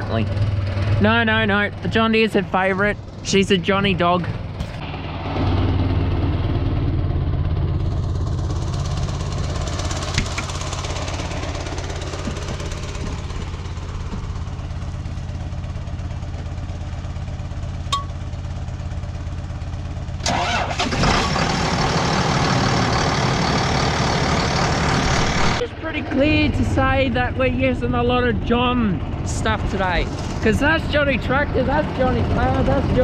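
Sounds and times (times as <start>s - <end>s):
loud rough noise: 0.0s - 15.2s, 20.2s - 33.0s
engine droning: 0.0s - 33.0s.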